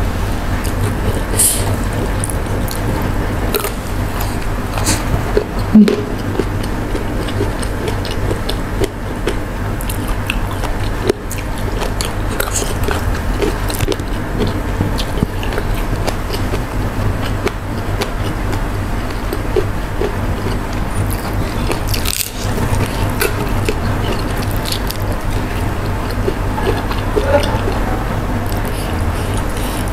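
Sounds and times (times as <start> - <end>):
low steady hum: 0.0 - 29.9
person chewing food: 0.6 - 29.9.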